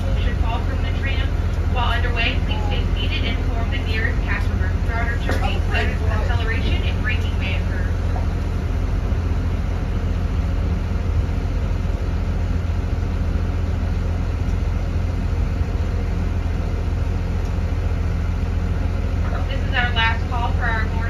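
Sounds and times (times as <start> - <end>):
tractor unit idling: 0.0 - 21.0.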